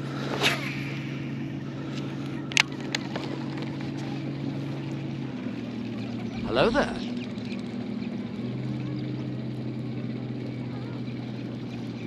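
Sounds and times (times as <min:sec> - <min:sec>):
boat motor humming: 0:01.2 - 0:12.0.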